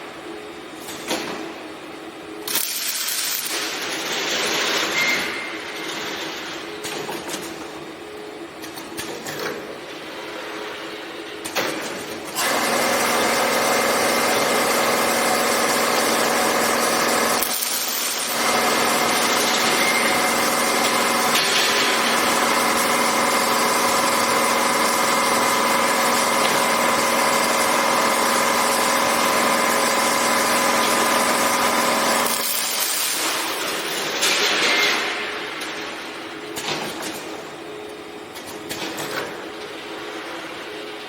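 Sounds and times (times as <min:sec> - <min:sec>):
welding machine humming: 0:02.2 - 0:09.2, 0:11.4 - 0:39.6.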